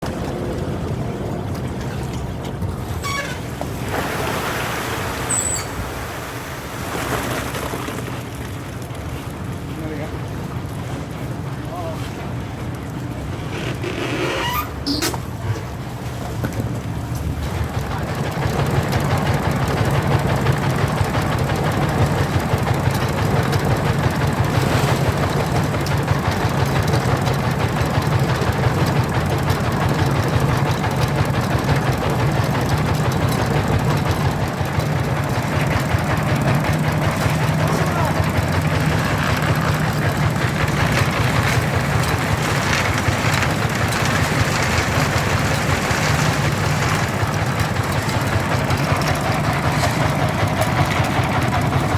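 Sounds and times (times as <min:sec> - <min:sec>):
concrete pouring machine engine drone: 0:00.0 - 0:51.9.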